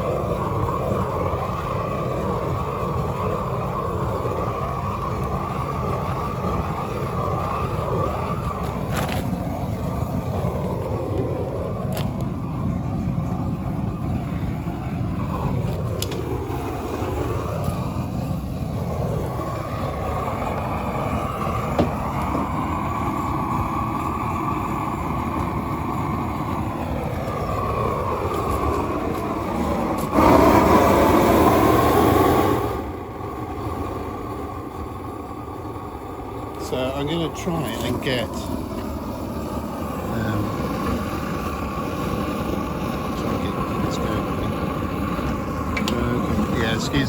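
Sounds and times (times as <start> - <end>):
gas flame burner roaring: 0.0 - 47.0.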